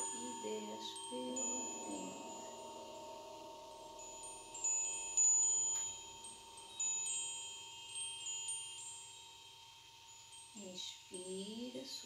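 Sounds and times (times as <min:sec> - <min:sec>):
chimes ringing: 0:00.0 - 0:12.0.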